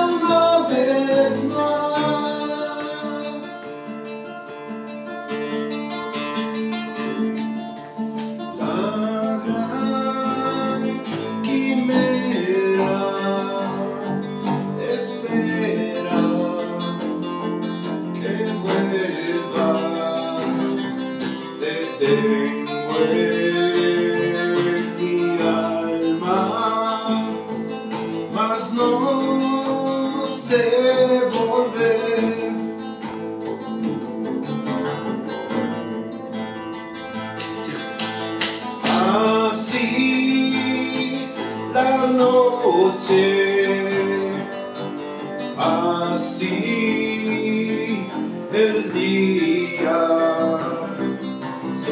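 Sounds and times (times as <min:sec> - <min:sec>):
man singing: 0:00.0 - 0:04.1, 0:08.4 - 0:34.8, 0:38.6 - 0:51.9
acoustic guitars: 0:00.0 - 0:51.9.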